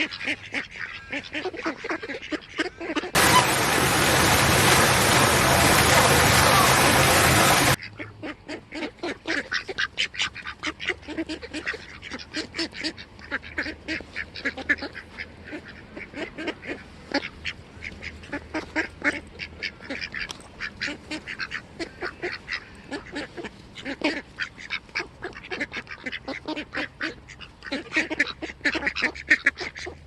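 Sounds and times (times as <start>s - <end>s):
waterfowl honking and quacking: 0.0s - 30.0s.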